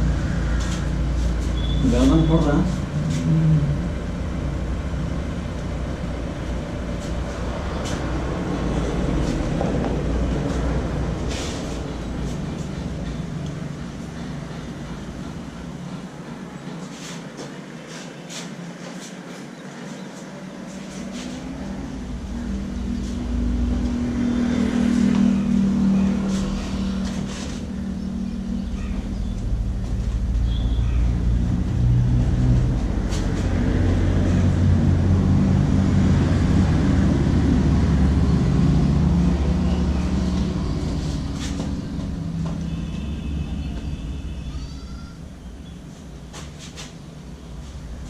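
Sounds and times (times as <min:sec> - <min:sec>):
vehicle engines passing: 0:00.0 - 0:48.0.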